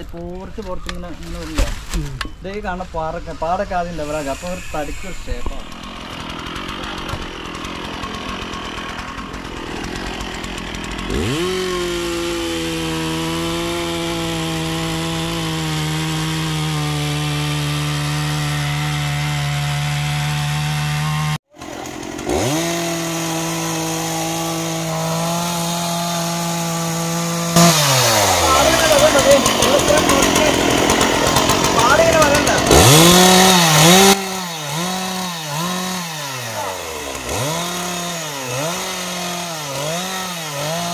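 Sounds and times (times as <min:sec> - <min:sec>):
chainsaw cutting wood: 0:03.9 - 0:40.9.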